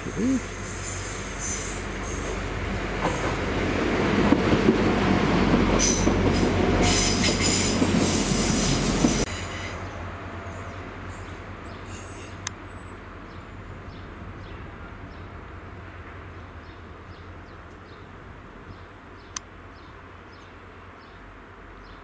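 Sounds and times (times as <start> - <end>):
train engine rumble: 0.0 - 21.8.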